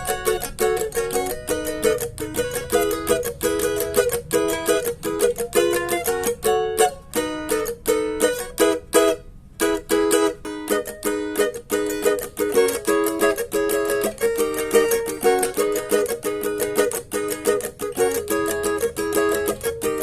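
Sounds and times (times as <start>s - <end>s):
cavaquinho strumming chords: 0.0s - 20.0s.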